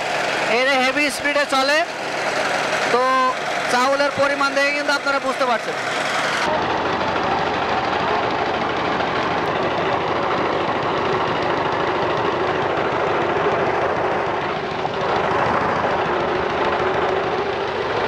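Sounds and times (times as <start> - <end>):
rice huller engine running: 0.0 - 18.0.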